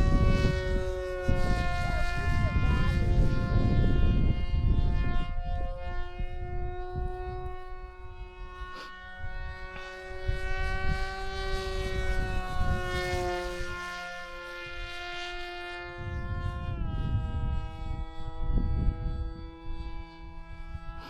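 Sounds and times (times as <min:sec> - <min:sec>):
model plane motor whining: 0:00.0 - 0:21.0
wind rumble on microphone: 0:00.0 - 0:21.0.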